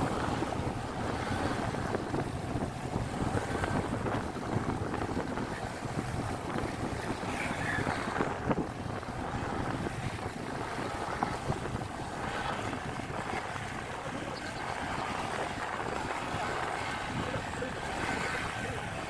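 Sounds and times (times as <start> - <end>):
scooter engine and road noise: 0.0 - 19.0
wind buffeting microphone: 0.0 - 19.0.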